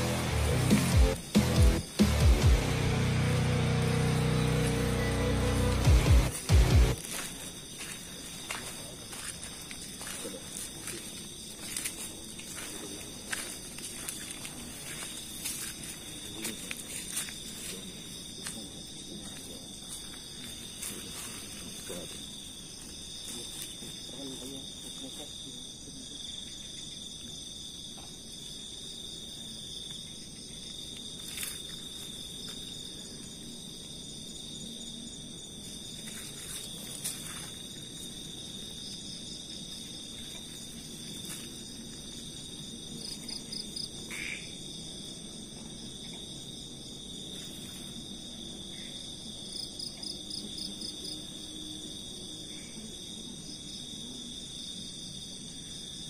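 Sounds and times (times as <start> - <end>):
fast pulsing insect trill: 0.0 - 56.0
insects trilling: 0.0 - 56.0.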